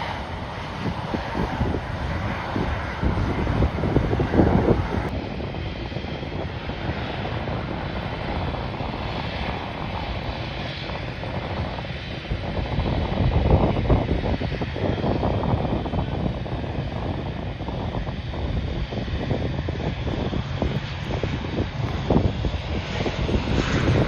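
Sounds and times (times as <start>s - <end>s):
airliner engines passing: 0.0s - 24.0s
wind buffeting microphone: 0.0s - 24.0s.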